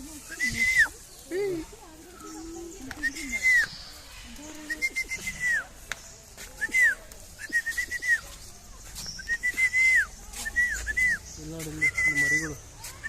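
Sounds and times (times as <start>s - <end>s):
bird whistled calls: 0.2s - 1.1s, 2.2s - 5.7s, 6.6s - 12.6s.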